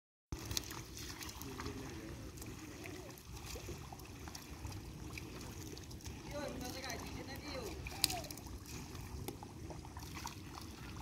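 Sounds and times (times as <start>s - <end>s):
splashes in muddy water: 0.3s - 11.0s.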